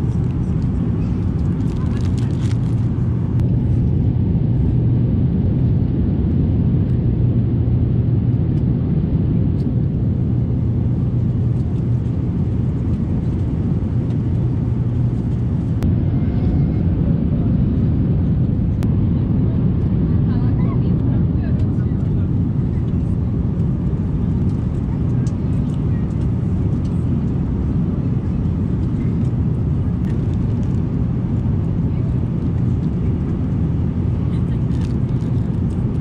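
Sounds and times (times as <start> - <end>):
aircraft cabin engine rumble: 0.0 - 36.0
constant low hum: 0.0 - 36.0.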